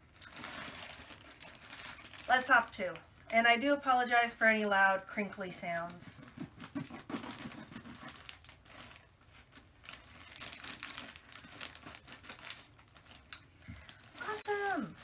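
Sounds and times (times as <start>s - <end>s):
plastic bag crinkling: 0.0s - 3.9s, 5.7s - 15.0s.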